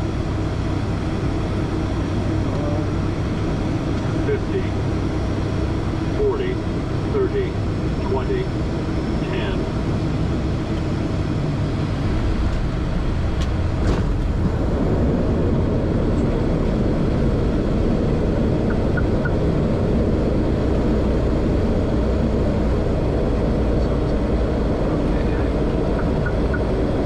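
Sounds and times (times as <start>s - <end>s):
turboprop engine and propeller noise: 0.0s - 27.0s.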